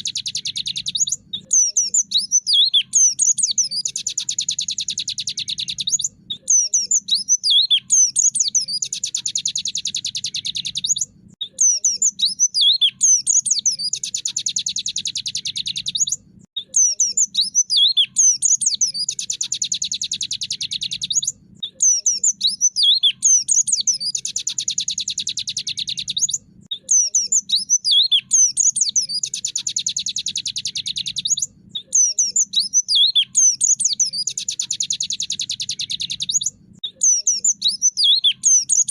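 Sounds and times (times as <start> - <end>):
bird song high whistles: 0.0 - 38.9.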